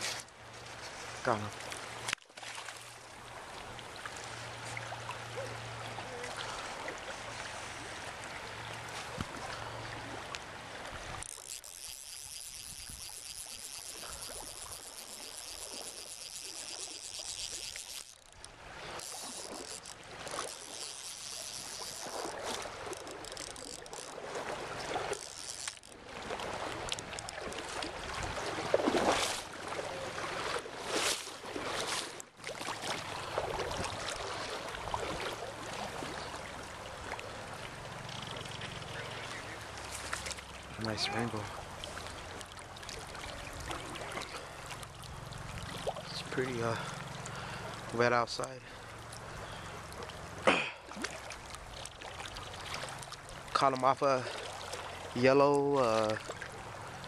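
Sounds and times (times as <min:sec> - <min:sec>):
river water running: 0:00.0 - 0:57.0.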